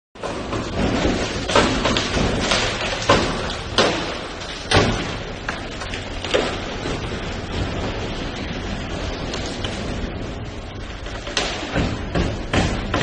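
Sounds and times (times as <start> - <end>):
heavy bangs against steel: 0.2 - 13.0.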